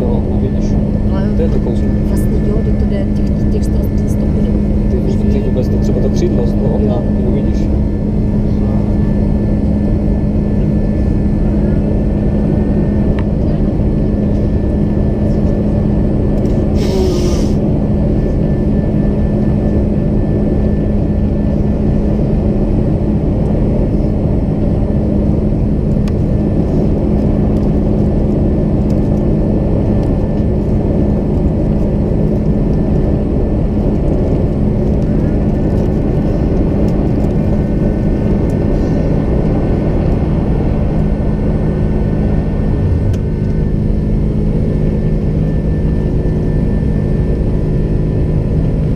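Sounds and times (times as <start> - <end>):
jet engine cabin drone: 0.0 - 48.9.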